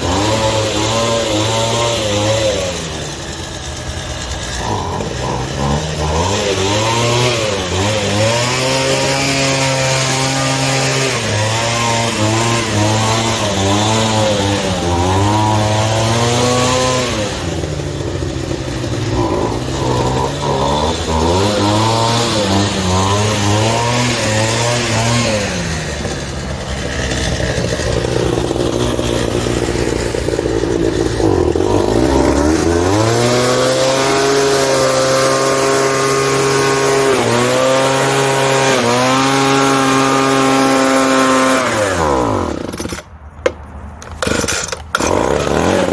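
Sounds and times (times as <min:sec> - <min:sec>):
small gasoline engine revving: 0:00.0 - 0:45.9.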